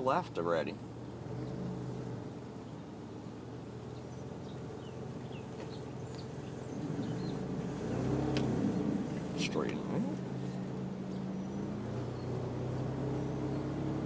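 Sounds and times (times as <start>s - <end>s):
car engine and cabin hum: 0.0s - 14.0s.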